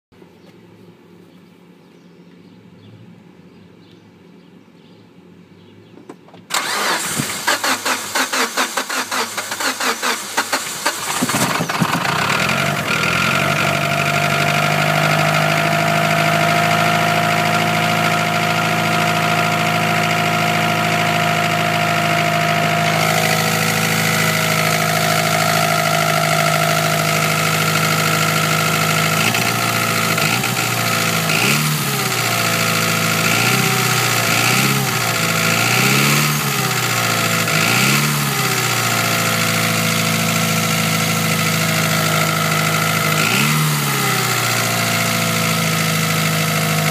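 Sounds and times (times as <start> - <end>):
car engine idling: 6.5 - 46.9
engine ticking: 6.5 - 46.9
starter motor cranking: 6.5 - 46.9.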